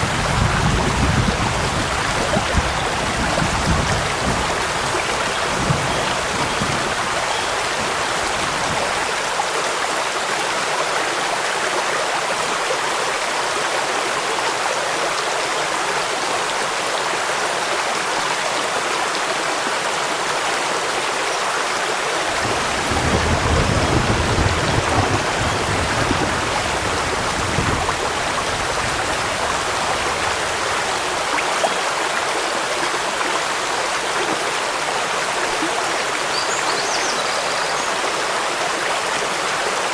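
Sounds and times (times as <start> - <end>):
rain falling: 0.0 - 39.9
waterfall and stream rushing: 0.0 - 39.9.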